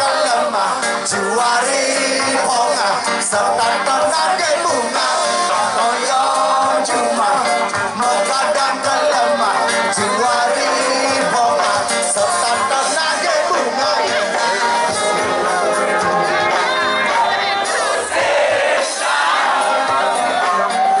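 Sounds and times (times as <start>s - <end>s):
live reggae band with singer: 0.0s - 21.0s.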